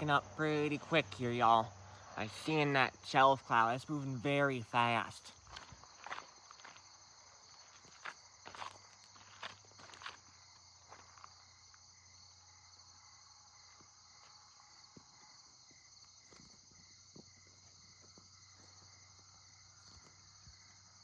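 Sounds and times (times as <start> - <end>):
crickets and night insects chirping: 0.0 - 21.0.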